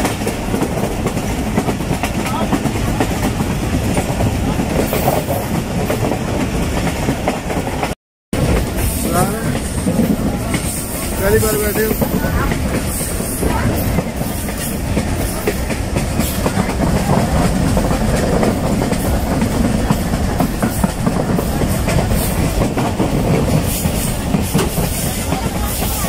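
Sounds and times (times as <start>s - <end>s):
train coach rumble: 0.0s - 26.0s
train wheels clicking: 0.0s - 26.0s.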